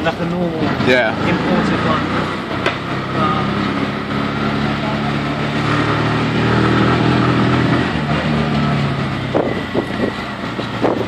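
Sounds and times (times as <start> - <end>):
auto rickshaw engine running: 0.0 - 11.0.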